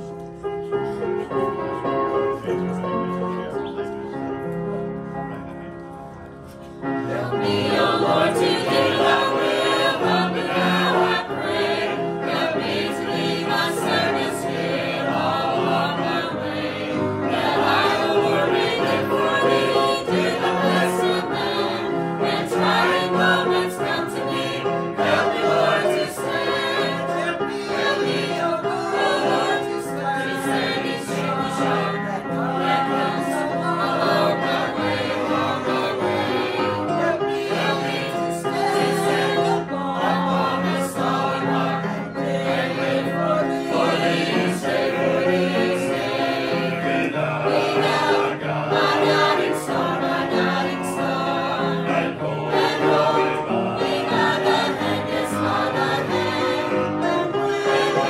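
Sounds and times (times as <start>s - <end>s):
choir singing a gospel hymn: 6.8s - 58.0s.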